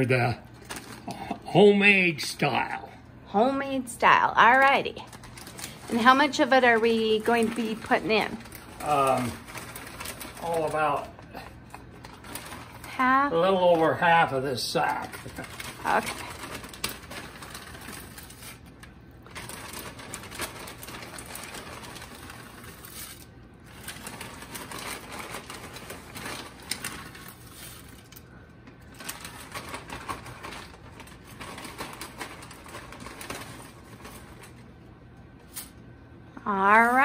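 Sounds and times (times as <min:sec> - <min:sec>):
plastic bag crinkling: 0:00.0 - 0:01.6, 0:03.7 - 0:34.8.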